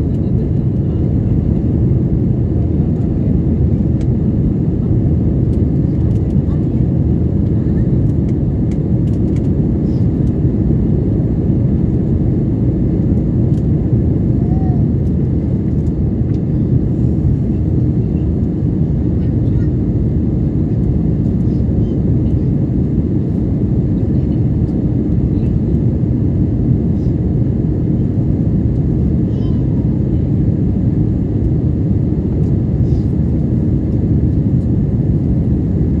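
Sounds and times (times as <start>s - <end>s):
jet engines rumbling in cabin: 0.0s - 36.0s.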